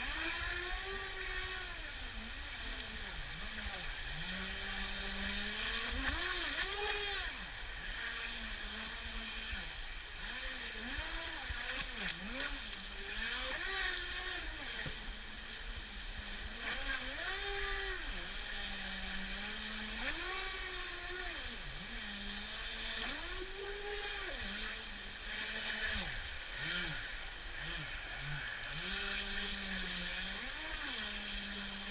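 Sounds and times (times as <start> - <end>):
radio-controlled boat motor whining: 0.0 - 31.9.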